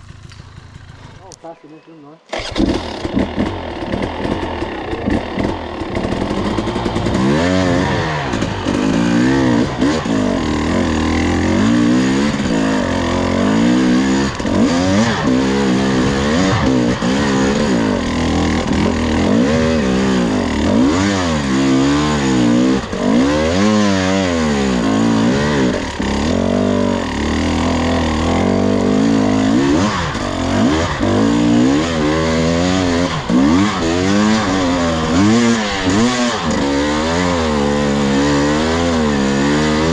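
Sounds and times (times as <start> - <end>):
dirt bike engine revving: 2.3 - 39.9.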